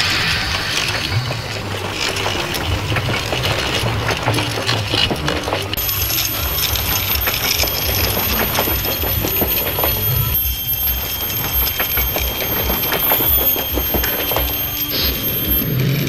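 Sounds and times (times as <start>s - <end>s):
toy train motor hum: 0.0s - 16.0s
wheels clicking over rail joints: 0.0s - 16.0s.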